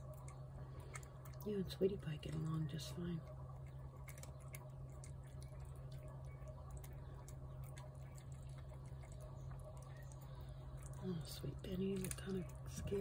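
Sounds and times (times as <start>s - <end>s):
cat chewing and licking: 0.0s - 13.0s
steady low hum: 0.0s - 13.0s.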